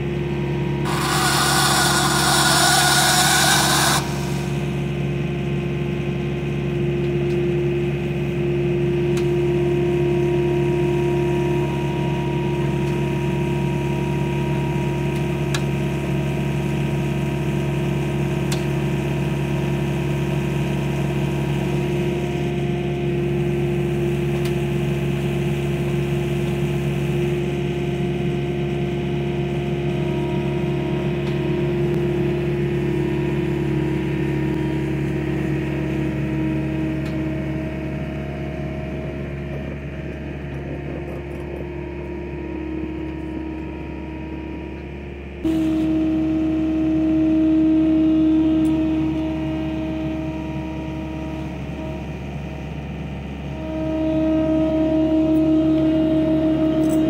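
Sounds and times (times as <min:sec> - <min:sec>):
skid loader engine running: 0:00.0 - 0:57.0.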